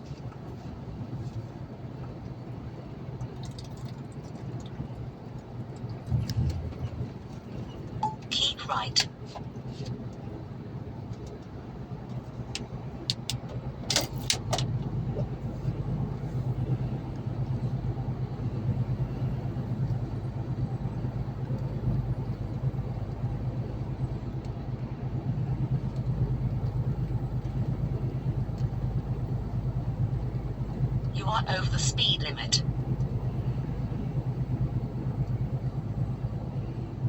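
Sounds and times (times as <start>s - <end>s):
lorry engine and road noise: 0.0s - 37.0s.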